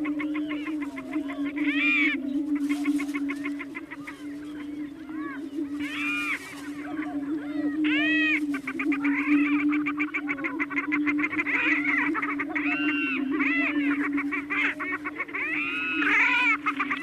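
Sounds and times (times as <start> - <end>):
cackling notes: 0.0 - 17.0
prairie chickens swooping calls: 0.0 - 17.0.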